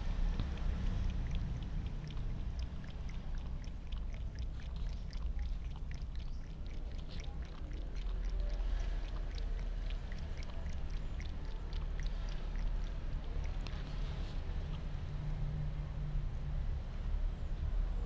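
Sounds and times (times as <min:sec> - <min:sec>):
cat lapping water: 0:00.0 - 0:15.1.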